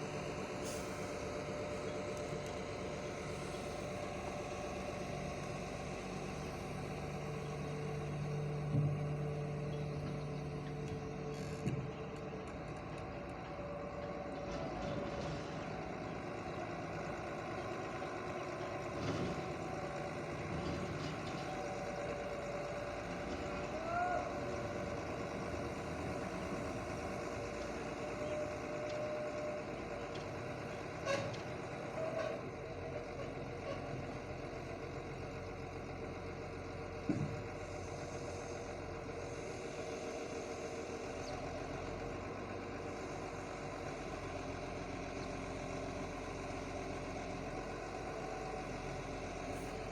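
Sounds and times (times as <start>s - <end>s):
heavy machinery engine running: 0.0s - 49.9s.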